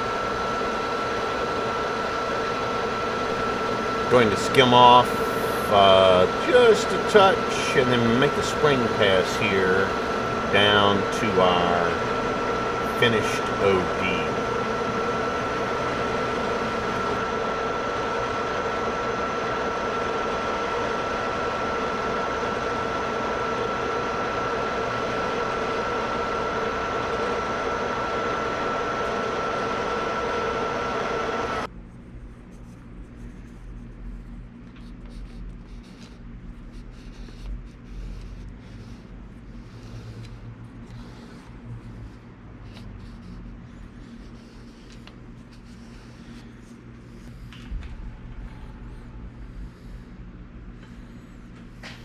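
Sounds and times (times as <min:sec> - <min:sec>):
metal lathe running with whine: 0:00.0 - 0:31.7, 0:34.8 - 0:51.0.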